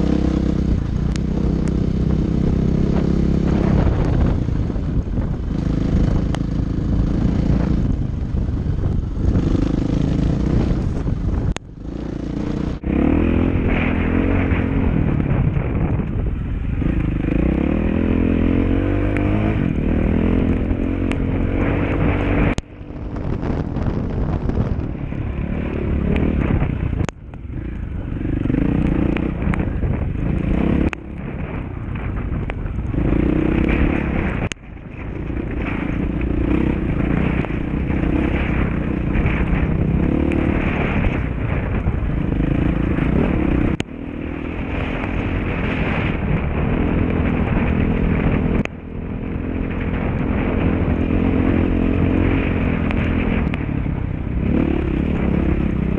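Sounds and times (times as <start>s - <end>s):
dirt bike engine revving: 0.0s - 16.1s, 16.7s - 32.3s, 32.9s - 55.9s.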